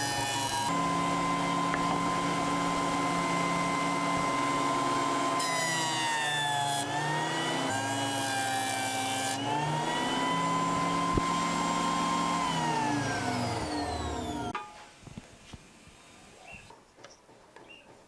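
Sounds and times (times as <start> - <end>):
jointer planer motor whine: 0.0 - 14.6.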